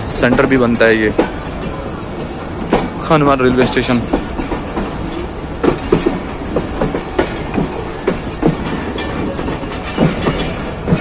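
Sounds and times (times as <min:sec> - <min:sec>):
train coach rumbling and rattling: 0:00.0 - 0:11.0
wheels clacking over rails: 0:00.0 - 0:11.0.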